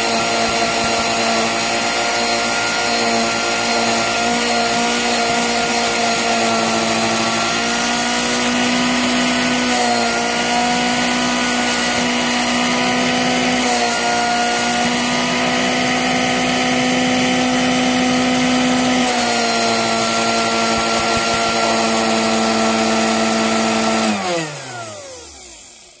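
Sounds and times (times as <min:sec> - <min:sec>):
electric motor running: 0:00.0 - 0:26.0.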